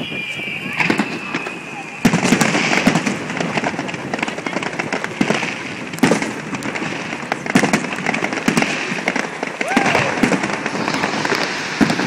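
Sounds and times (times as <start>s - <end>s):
fireworks bangs: 0.0s - 12.0s
fireworks cracking and popping: 0.0s - 12.0s.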